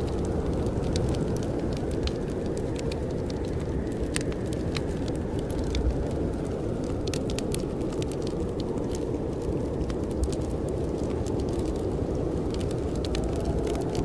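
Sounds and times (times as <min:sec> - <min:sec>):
blizzard wind rumbling: 0:00.0 - 0:14.0
wood fire crackling: 0:00.0 - 0:14.0.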